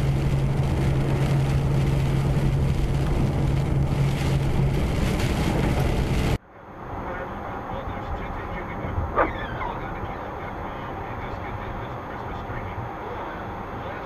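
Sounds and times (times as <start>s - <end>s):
low engine hum: 0.0s - 14.0s
road and tyre noise: 0.0s - 14.0s.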